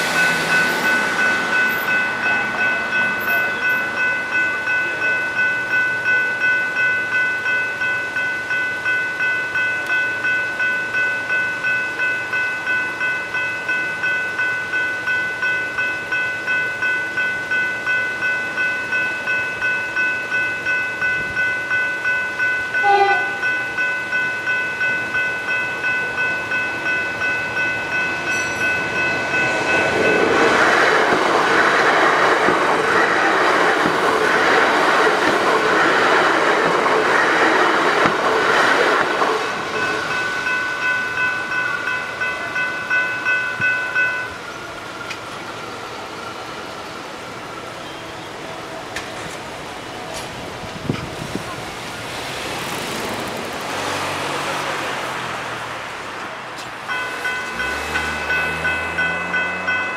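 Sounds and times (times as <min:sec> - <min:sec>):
level crossing bells ringing: 0:00.0 - 0:48.2, 0:56.8 - 0:59.9
electric train arriving: 0:00.0 - 0:59.9.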